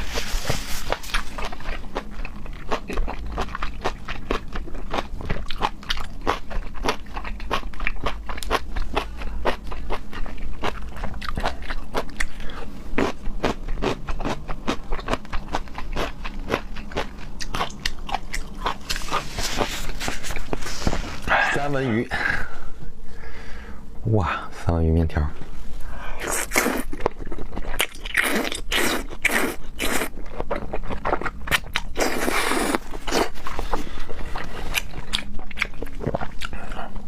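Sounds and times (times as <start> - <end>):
person chewing crisp food: 0.0 - 21.3, 26.1 - 37.0.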